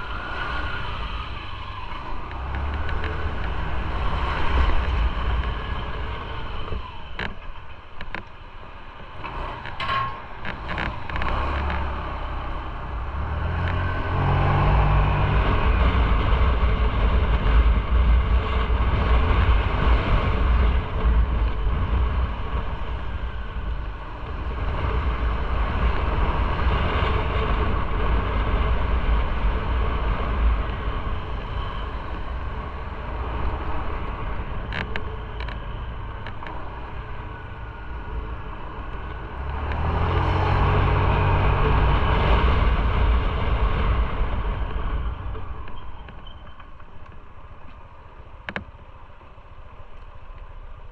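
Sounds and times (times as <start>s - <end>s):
wind noise: 0.0s - 48.8s.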